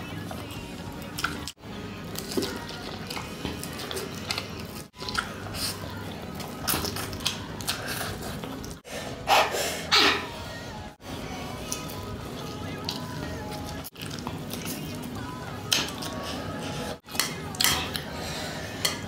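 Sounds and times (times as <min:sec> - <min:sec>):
soft background music: 0:00.0 - 0:08.9, 0:09.8 - 0:19.0.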